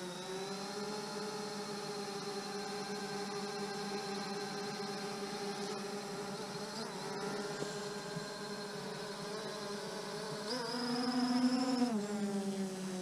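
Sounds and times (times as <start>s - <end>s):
drone motors humming at idle: 0.0s - 13.0s.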